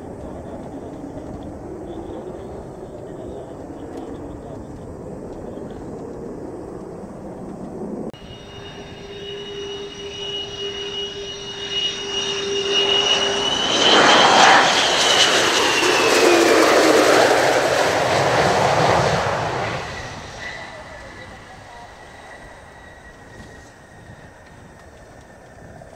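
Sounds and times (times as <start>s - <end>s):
jet engines whining and roaring: 0.0s - 25.9s.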